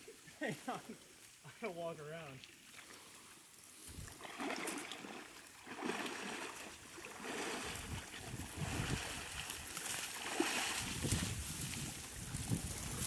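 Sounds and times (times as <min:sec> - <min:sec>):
reeds rustling against clothing: 0:00.0 - 0:13.0
footsteps wading through water: 0:02.3 - 0:13.0.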